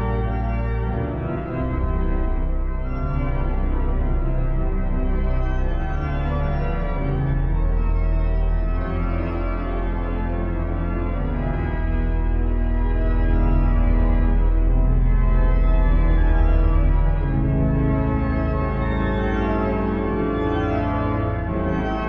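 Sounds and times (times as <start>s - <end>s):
pipe organ playing chords: 0.0s - 22.0s.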